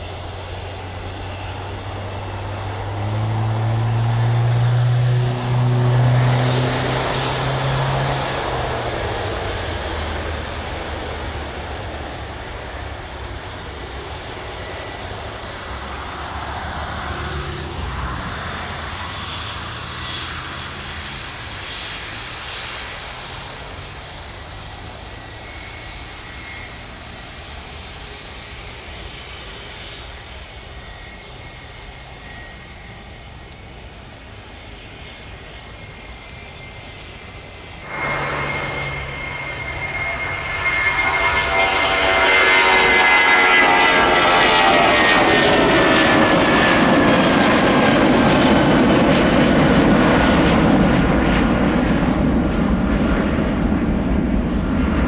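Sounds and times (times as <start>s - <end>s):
jet engines roaring with high whine: 0.0s - 55.0s.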